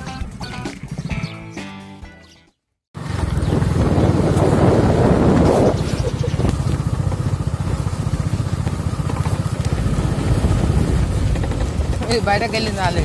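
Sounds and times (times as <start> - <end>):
motorcycle engine cruising: 0.0 - 2.4, 3.0 - 13.0.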